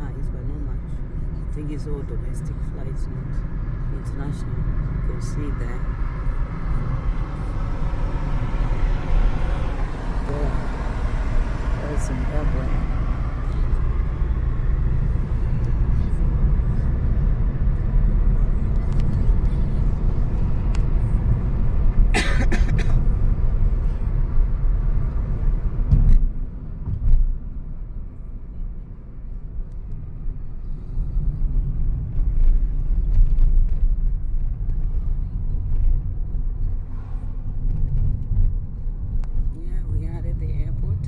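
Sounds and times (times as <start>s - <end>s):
car interior road rumble: 0.0s - 41.0s.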